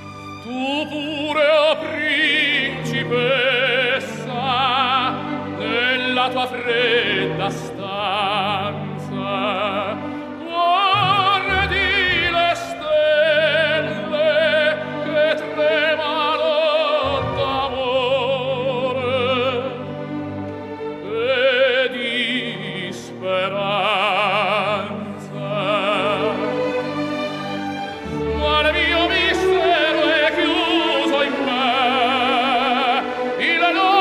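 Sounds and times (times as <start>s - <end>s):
opera singer: 0.0s - 34.0s
orchestral accompaniment: 0.0s - 34.0s.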